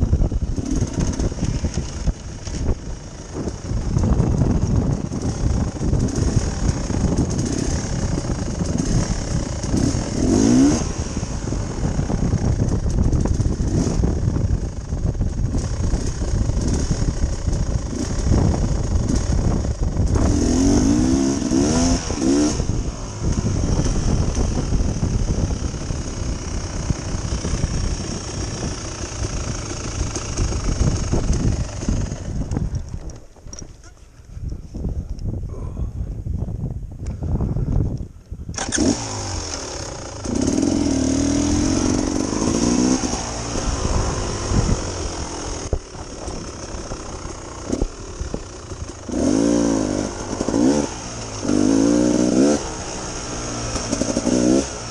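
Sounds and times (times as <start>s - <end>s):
dirt bike engine revving: 0.0s - 32.9s, 38.5s - 54.9s.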